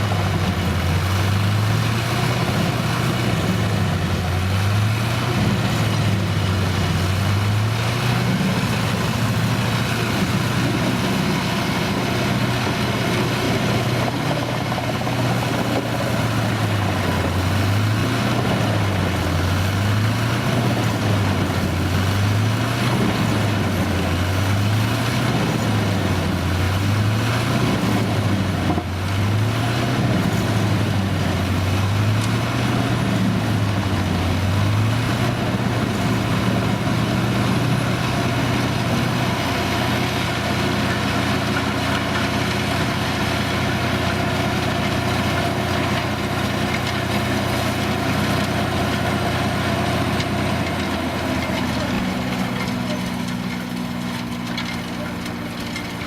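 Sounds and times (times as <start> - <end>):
farm machine engine running: 0.0 - 56.0.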